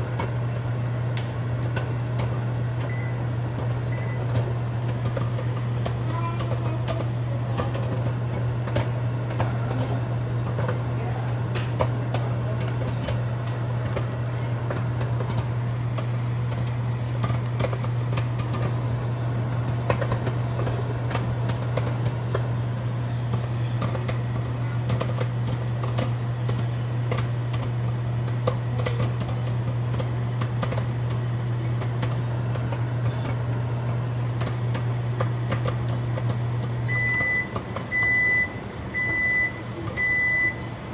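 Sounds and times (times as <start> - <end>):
popcorn popping: 0.0 - 40.6
microwave oven humming: 0.0 - 40.9.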